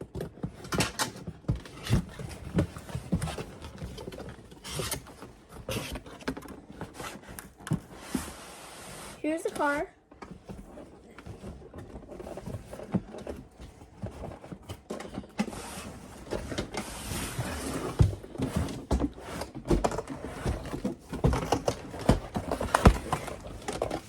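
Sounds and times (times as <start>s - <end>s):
knocks and thumps of handling: 0.0s - 8.4s, 9.4s - 24.0s.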